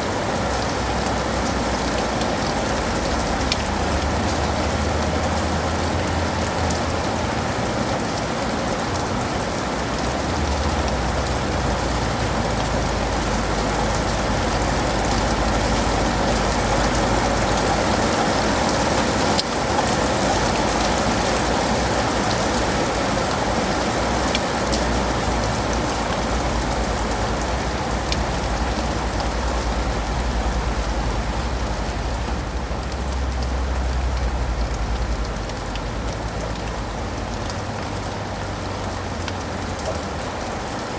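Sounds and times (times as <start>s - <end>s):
rain on leaves and pavement: 0.0s - 40.9s
raindrop ticks: 0.4s - 40.8s.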